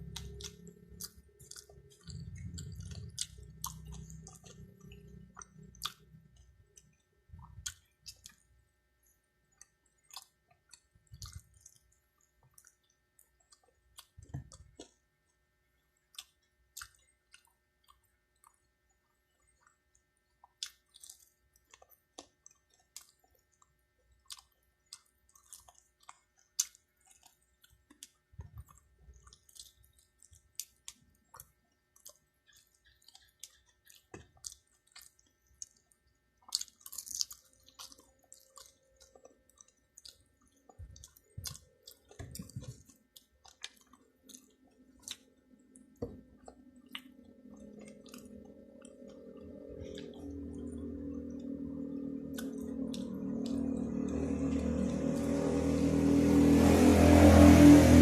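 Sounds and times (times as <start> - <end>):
wet chewing and lip-smacking: 0.0 - 57.4.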